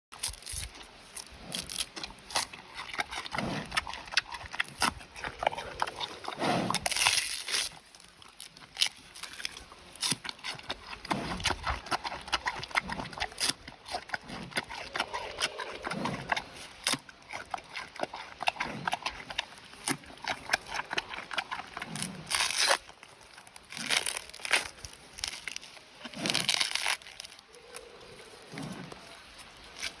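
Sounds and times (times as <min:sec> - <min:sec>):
panda chewing bamboo: 0:00.2 - 0:30.0.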